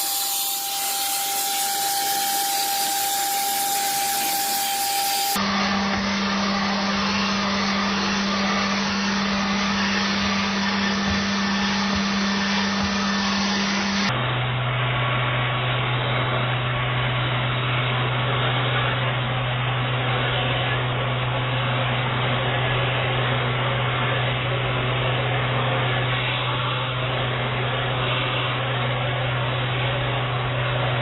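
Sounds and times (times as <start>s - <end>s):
vacuum cleaner motor running: 0.0s - 31.0s.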